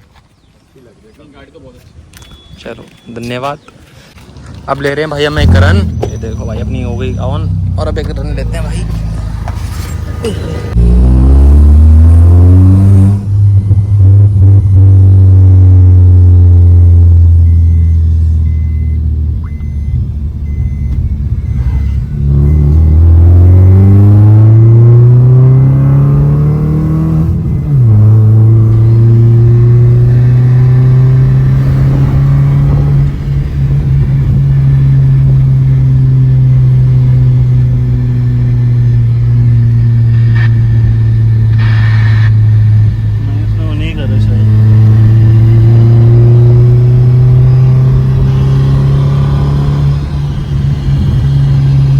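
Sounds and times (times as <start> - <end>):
car engine revving: 5.2 - 51.9.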